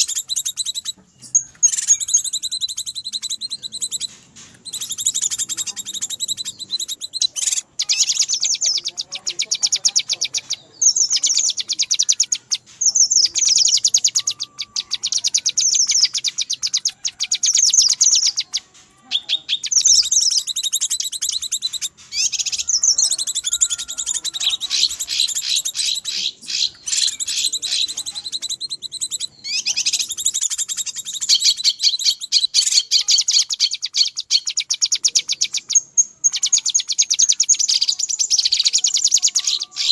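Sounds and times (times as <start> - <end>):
bird rapid high chattering: 0.0 - 39.9.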